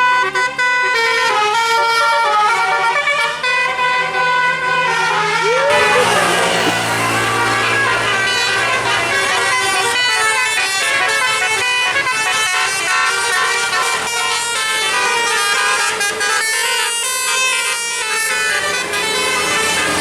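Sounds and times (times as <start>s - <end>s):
musical air horn playing tune: 0.4s - 20.0s.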